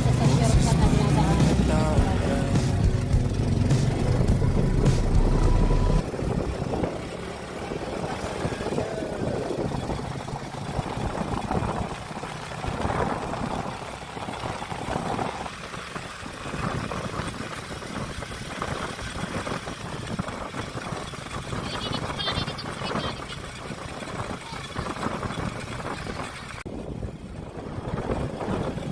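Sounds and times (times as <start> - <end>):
rumbling road noise: 0.0 - 28.9
vehicle engine running: 0.0 - 28.9.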